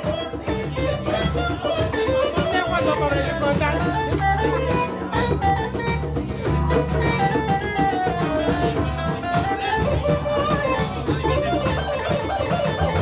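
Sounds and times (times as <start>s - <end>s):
bass: 0.0s - 13.0s
drums: 0.0s - 13.0s
guitar lead line: 0.0s - 13.0s.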